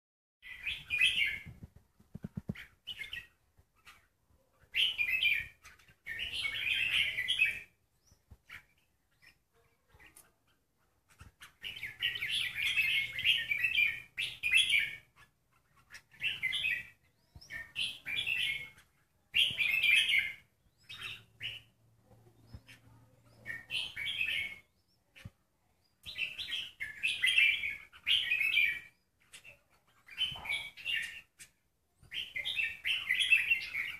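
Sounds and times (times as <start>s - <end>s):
bird chirping: 0.4s - 33.9s.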